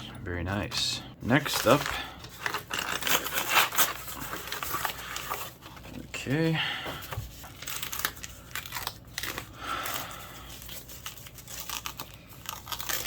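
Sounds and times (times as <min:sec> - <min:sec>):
packaging tearing and crinkling: 0:01.3 - 0:06.0, 0:07.2 - 0:13.0.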